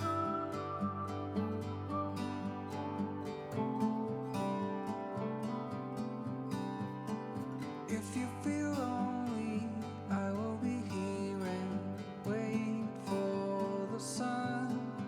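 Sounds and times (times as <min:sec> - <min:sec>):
person singing: 0:00.0 - 0:05.1, 0:07.9 - 0:15.0
strummed acoustic guitar: 0:00.0 - 0:15.0.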